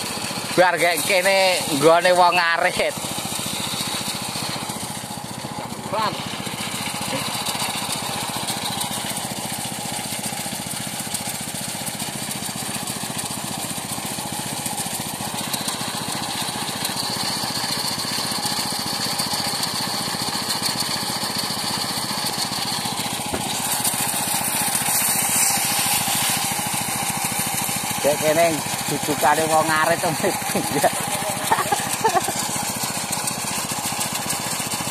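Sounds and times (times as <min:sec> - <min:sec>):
threshing machine engine running: 0:00.0 - 0:34.9.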